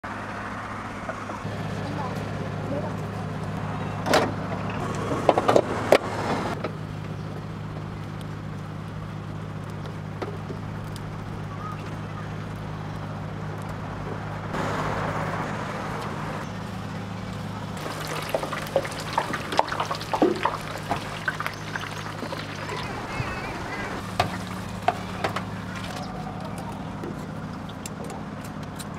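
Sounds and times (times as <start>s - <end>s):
machine hum: 1.4s - 27.9s.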